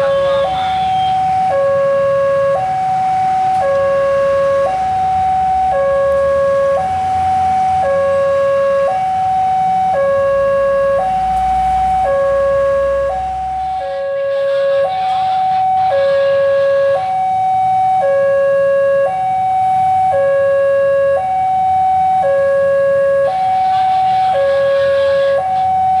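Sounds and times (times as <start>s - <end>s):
level crossing two-tone alarm: 0.0s - 26.0s.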